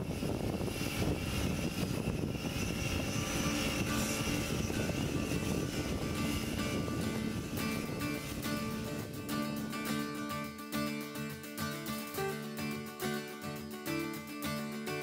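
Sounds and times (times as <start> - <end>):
faint wavering whine: 0.0 - 15.0
pressure washer drone: 0.0 - 15.0.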